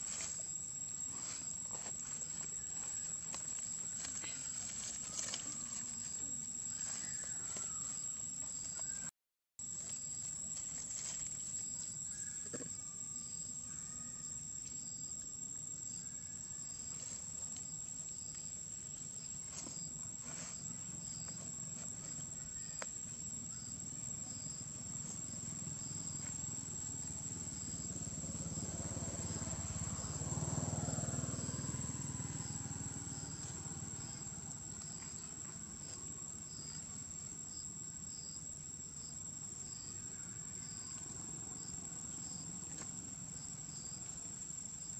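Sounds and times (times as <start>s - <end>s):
pulsing insect chirp: 0.0s - 9.1s, 9.7s - 44.9s
insects droning: 0.0s - 44.9s.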